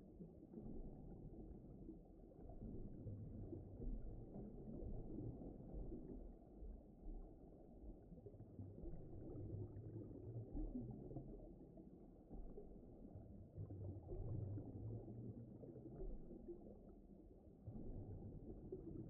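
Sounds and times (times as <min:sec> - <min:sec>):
muffled ocean rumble: 0:00.0 - 0:19.0.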